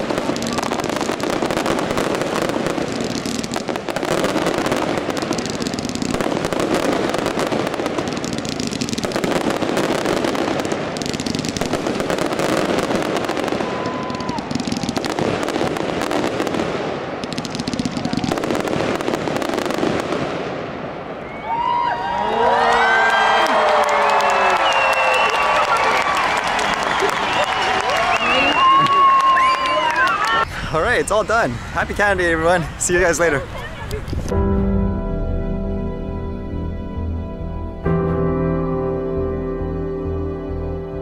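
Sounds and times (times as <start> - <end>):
fireworks bangs and crackling: 0.0 - 21.8, 23.3 - 34.8.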